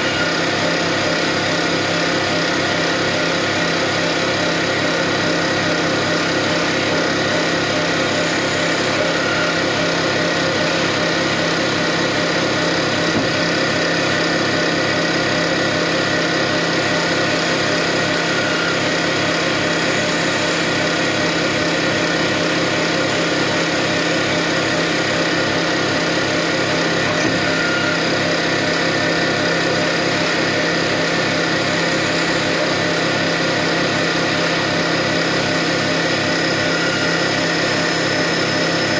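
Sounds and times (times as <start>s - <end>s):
lathe machine humming: 0.0s - 38.9s.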